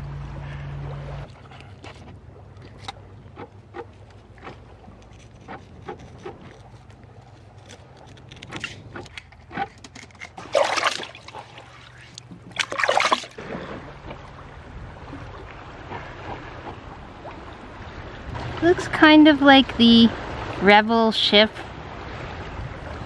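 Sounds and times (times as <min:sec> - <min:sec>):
water splashing: 0:00.0 - 0:23.0
water washing around boat: 0:00.0 - 0:23.0.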